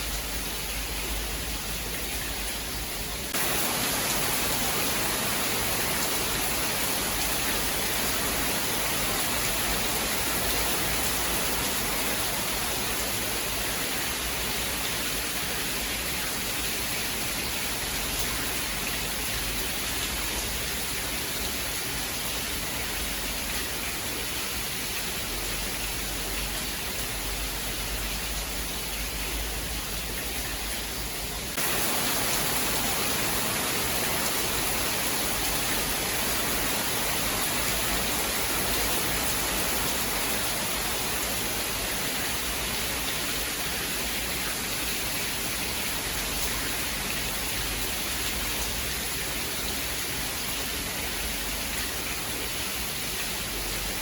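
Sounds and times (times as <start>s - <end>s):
steady rain hissing: 0.0s - 54.0s.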